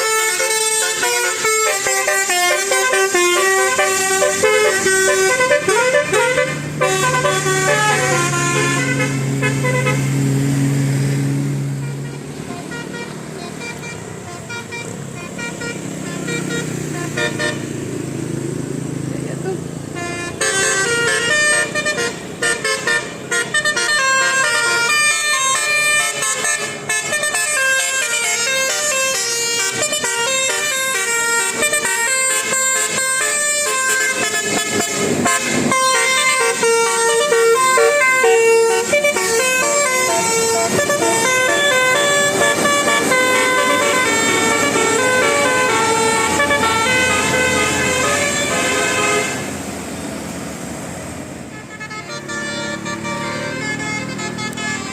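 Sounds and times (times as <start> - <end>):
multi-tone horn tune: 0.0 - 10.8, 11.4 - 17.9, 19.9 - 49.6, 51.5 - 54.9.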